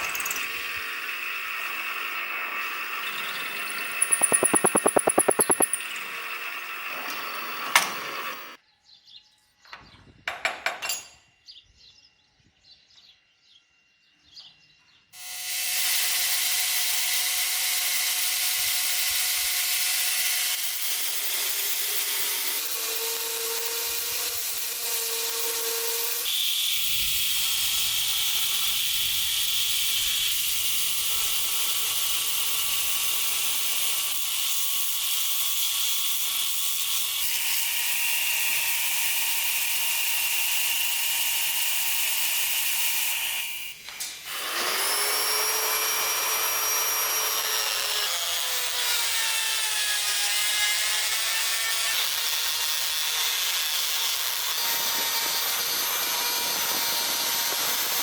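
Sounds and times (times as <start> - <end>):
electric grinder on metal: 0.0 - 8.6, 15.2 - 58.0.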